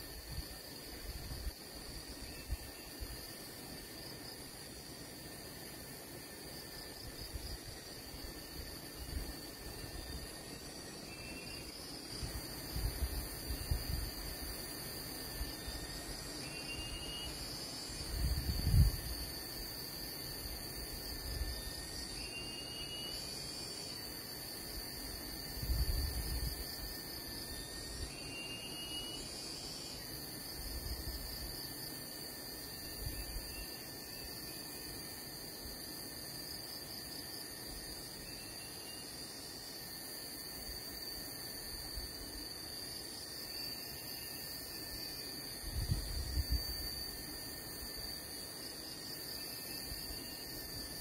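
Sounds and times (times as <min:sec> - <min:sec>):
high-pitched insect chorus: 0:00.0 - 0:51.0.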